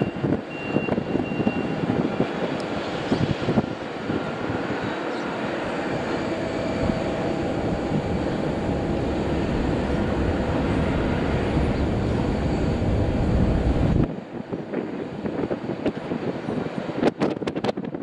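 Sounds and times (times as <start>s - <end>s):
jet engines rumbling with whine: 0.0s - 18.0s.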